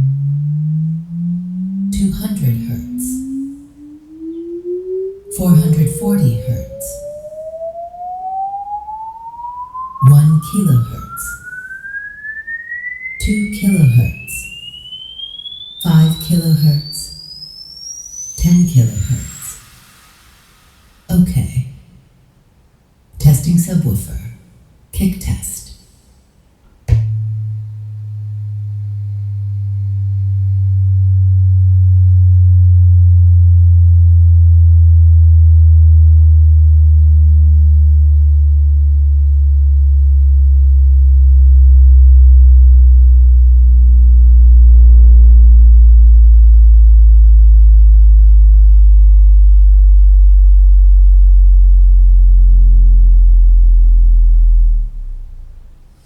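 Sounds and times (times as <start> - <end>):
deep test tone hum: 0.0 - 22.2, 26.6 - 56.0.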